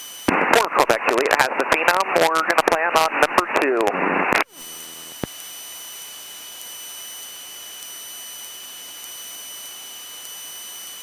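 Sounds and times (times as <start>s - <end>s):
electronic hiss with high whine: 0.0s - 11.0s.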